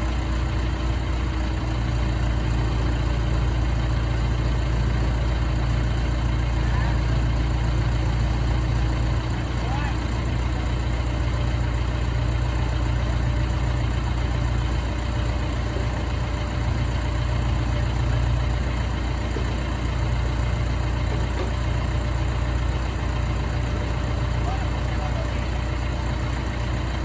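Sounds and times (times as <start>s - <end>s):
large diesel engine humming: 0.0s - 27.0s.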